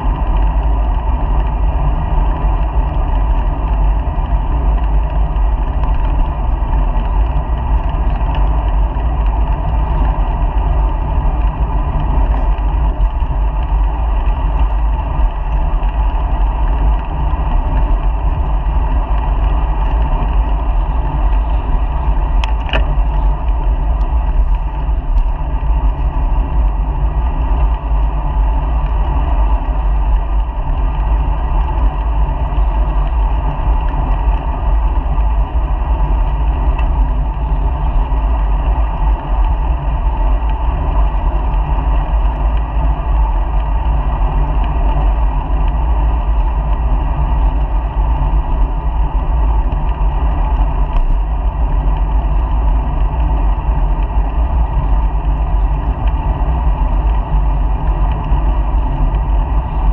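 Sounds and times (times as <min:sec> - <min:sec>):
bicycle road noise: 0:00.0 - 0:59.9
wind buffeting a camera: 0:00.0 - 0:59.9.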